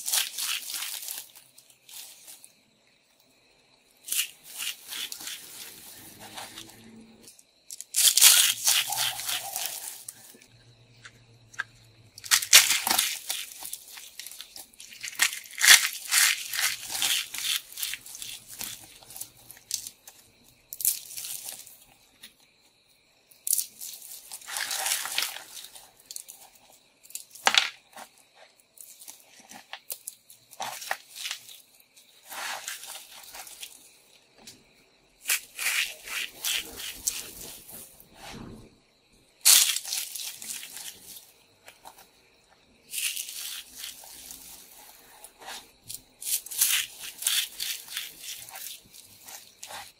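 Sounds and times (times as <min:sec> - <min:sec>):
brittle soap crunching and crackling: 0:00.0 - 0:02.5, 0:04.0 - 0:22.4, 0:23.4 - 0:34.6, 0:35.2 - 0:37.9, 0:39.4 - 0:49.9.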